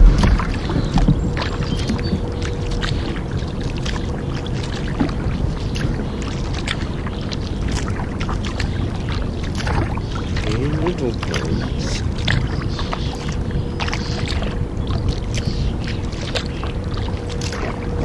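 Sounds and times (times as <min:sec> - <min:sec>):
hull wash through water: 0:00.0 - 0:18.0
paddle splashing: 0:00.0 - 0:18.0
water dripping and trickling: 0:00.0 - 0:18.0.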